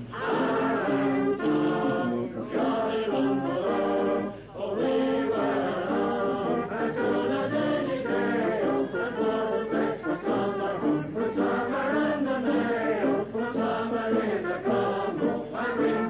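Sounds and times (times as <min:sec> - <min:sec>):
group singing folk song: 0:00.0 - 0:16.0.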